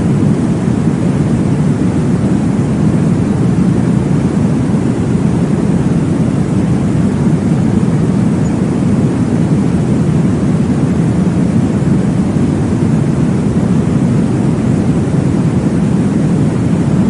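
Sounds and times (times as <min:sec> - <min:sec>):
deep whooshing white noise: 0:00.0 - 0:17.0.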